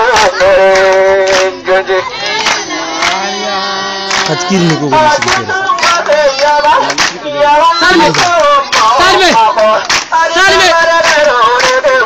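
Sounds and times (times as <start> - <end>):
person chanting through a megaphone: 0.0 - 12.0.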